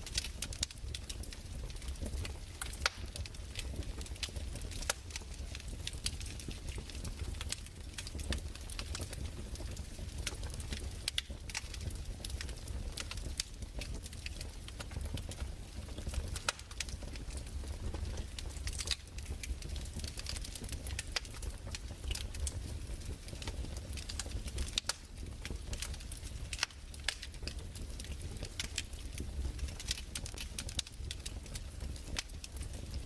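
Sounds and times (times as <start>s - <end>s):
fireplace crackling: 0.0s - 33.0s.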